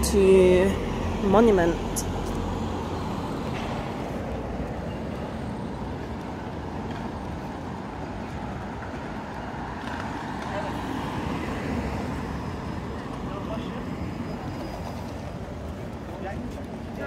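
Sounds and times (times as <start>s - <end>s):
cars and buses passing: 0.0s - 17.0s.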